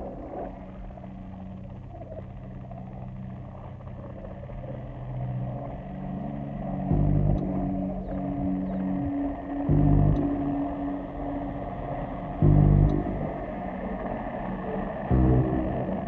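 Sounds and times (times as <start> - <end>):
droning deep hum tones: 0.0 - 16.0
low rumble: 0.0 - 16.0
low surge: 0.0 - 16.0.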